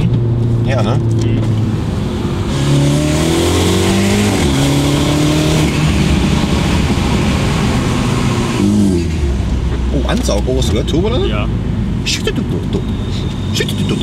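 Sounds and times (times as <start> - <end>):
car engine accelerating hard: 0.0 - 14.0
intake and turbo noise: 0.0 - 14.0.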